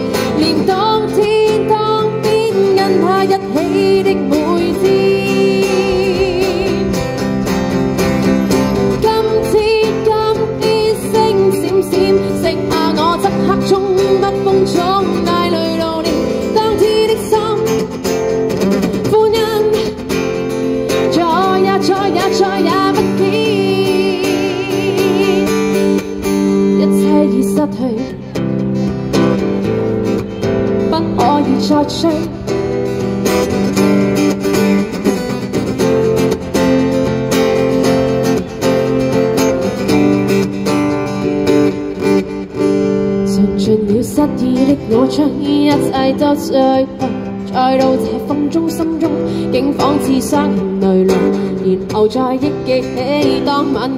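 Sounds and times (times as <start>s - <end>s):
woman singing pop song: 0.0s - 7.4s, 8.8s - 36.3s, 42.0s - 53.9s
strummed guitar chords: 0.0s - 53.9s.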